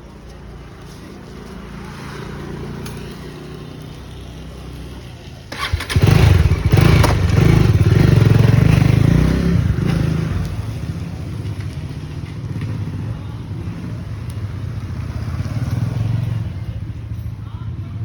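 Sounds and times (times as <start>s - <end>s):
motorcycle engine revving and idling: 1.4s - 18.0s.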